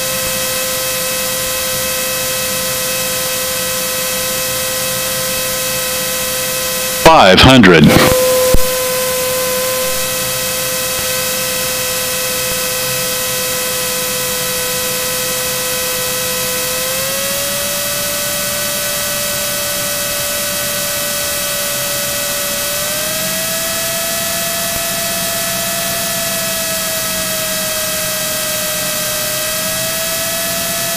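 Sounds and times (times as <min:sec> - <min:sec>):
aircraft engine and propeller droning: 0:00.0 - 0:30.9.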